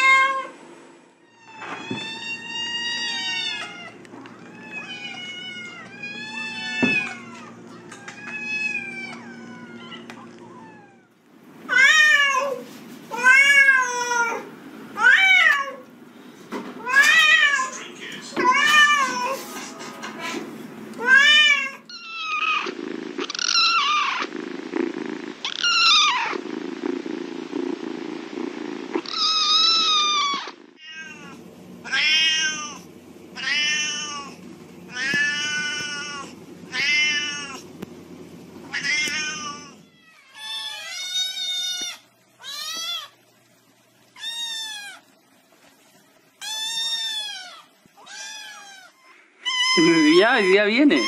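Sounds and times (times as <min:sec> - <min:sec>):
cats meowing: 0:00.0 - 0:00.5, 0:01.2 - 0:15.9, 0:16.8 - 0:19.5, 0:21.0 - 0:37.7, 0:38.6 - 0:43.3, 0:44.1 - 0:45.2, 0:46.4 - 0:51.0.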